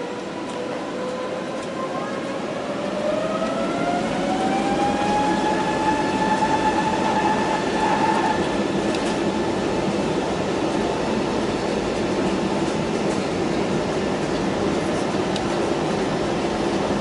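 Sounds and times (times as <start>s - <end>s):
jet engine whine rising: 0.0s - 17.0s.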